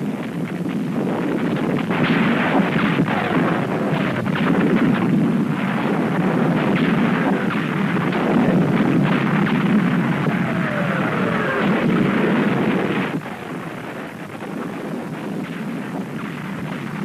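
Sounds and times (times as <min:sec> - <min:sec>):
muffled gunfire and artillery: 0:00.0 - 0:17.0.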